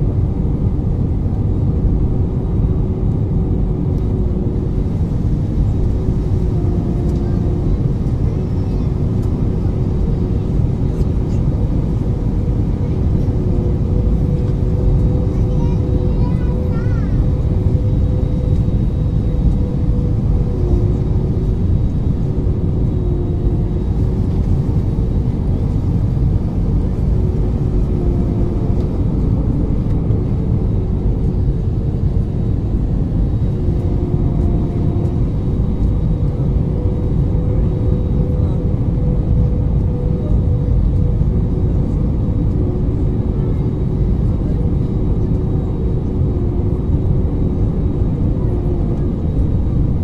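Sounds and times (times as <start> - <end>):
jet engines and airflow rumble: 0.0 - 50.0
steady hums: 0.0 - 50.0.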